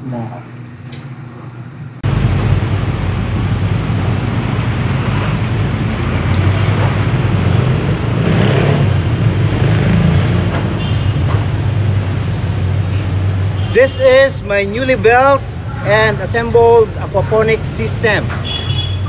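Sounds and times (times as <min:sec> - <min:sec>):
heavy city traffic rumble: 0:02.0 - 0:19.0.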